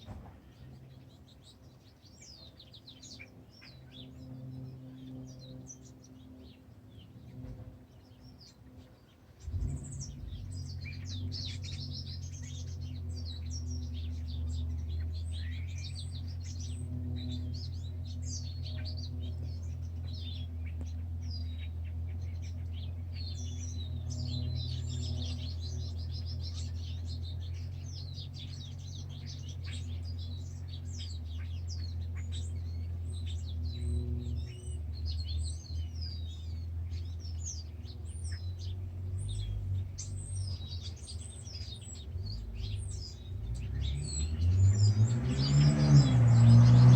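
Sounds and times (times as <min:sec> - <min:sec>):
low steady hum: 0:00.0 - 0:45.2
birds chirping and singing: 0:00.0 - 0:46.9.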